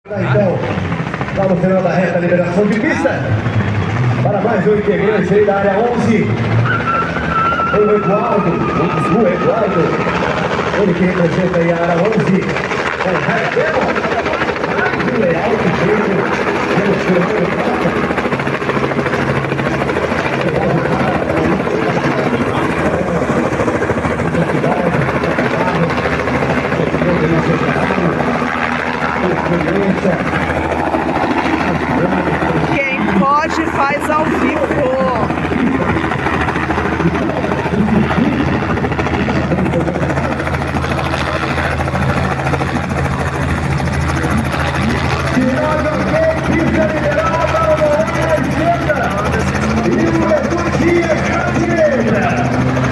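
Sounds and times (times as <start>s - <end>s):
helicopter rotor beating: 0.1s - 52.9s.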